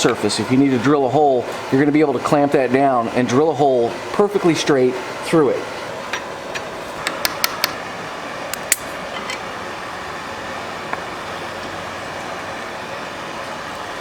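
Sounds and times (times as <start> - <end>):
fan-like whir: 0.0 - 14.0.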